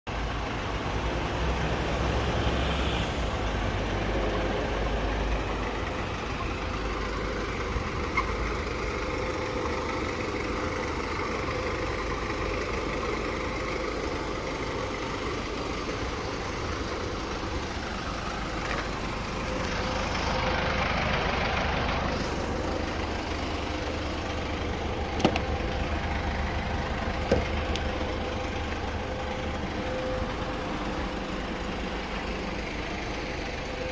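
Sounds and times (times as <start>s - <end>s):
diesel van engine idling: 0.1s - 33.9s.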